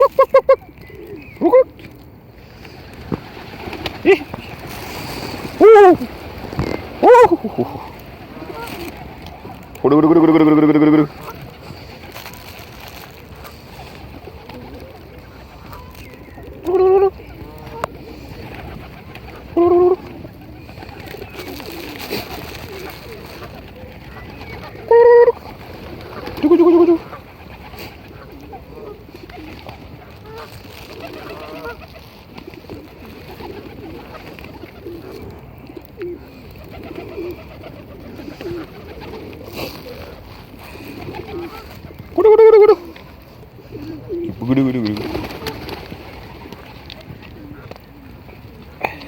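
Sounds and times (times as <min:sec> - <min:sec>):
pigeons cooing: 0:00.0 - 0:49.0
bird calling: 0:02.6 - 0:12.5, 0:13.3 - 0:35.2, 0:36.1 - 0:49.0.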